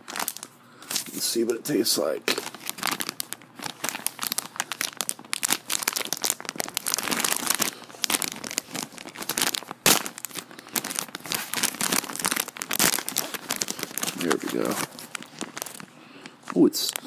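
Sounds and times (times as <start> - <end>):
snack bag crinkling: 0.0 - 1.1, 2.3 - 17.0.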